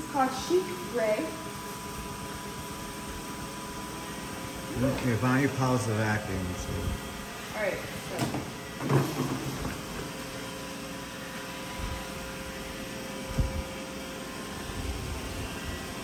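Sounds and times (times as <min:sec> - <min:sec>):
fan hum: 0:00.0 - 0:16.0.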